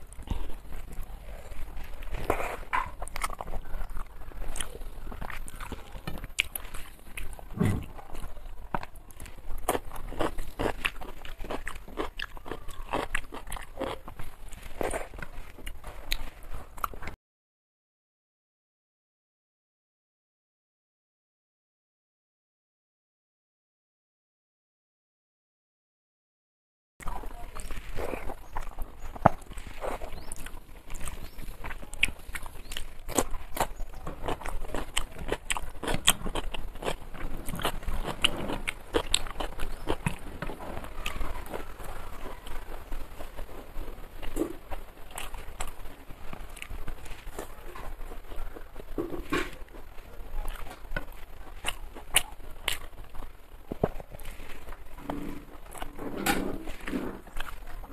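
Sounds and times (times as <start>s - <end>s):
person chewing crunchy food: 0.0s - 17.2s, 27.0s - 57.9s.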